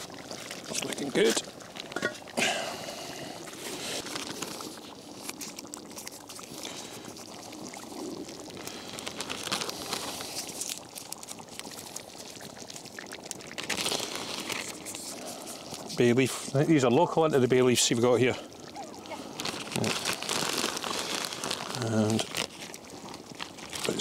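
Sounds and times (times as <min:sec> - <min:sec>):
curry bubbling in a pot: 0:00.0 - 0:24.0.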